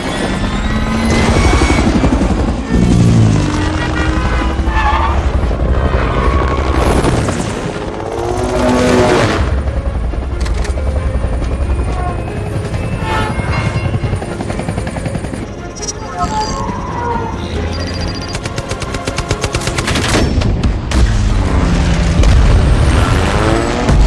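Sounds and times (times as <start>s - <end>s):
film score music: 0.0s - 24.0s
helicopter rotor and engine: 0.0s - 24.0s.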